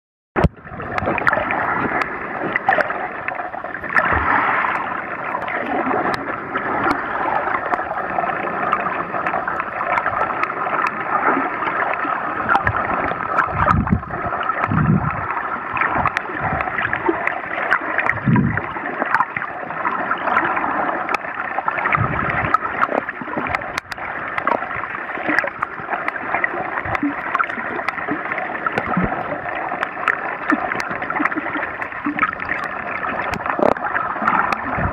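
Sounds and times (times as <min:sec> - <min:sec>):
low water surges: 0:00.4 - 0:34.9
muffled underwater rush: 0:00.4 - 0:34.9
underwater clicks and crackles: 0:00.4 - 0:34.9.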